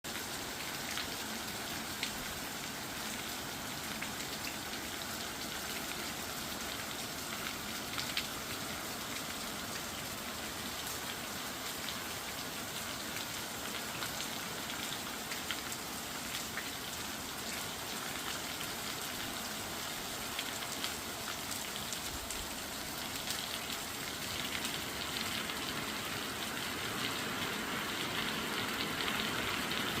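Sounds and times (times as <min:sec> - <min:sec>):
heavy rain downpour: 0:00.0 - 0:30.0.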